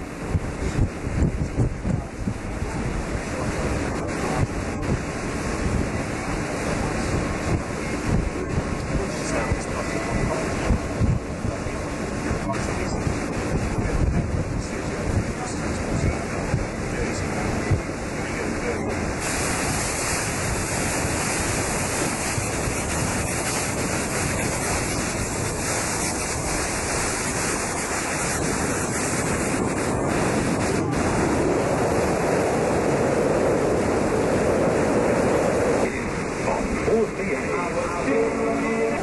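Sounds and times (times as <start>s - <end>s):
sea water rushing along ship: 0.0s - 39.0s
wind buffeting microphone: 0.0s - 39.0s.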